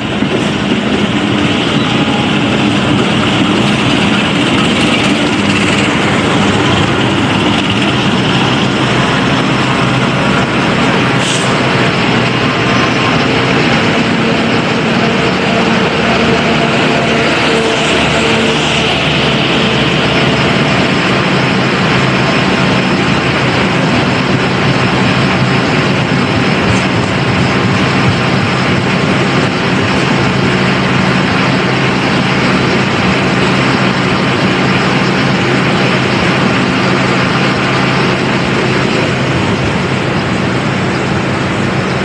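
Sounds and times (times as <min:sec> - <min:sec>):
locomotive engine drone: 0:00.0 - 0:42.0
rumble of train wheels: 0:00.0 - 0:42.0.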